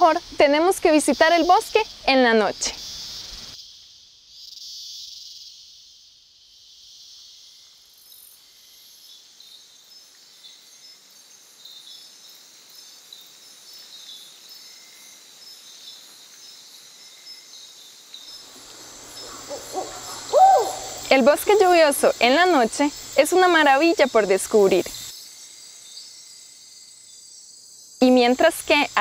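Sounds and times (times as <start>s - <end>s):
high insect chirps: 0.0s - 29.0s
insect chorus hiss: 0.0s - 29.0s.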